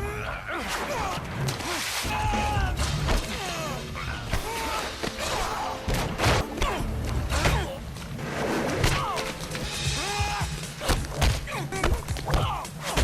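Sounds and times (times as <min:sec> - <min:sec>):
grunts and shouts: 0:00.0 - 0:07.9, 0:08.9 - 0:13.0
background film score: 0:00.0 - 0:13.0.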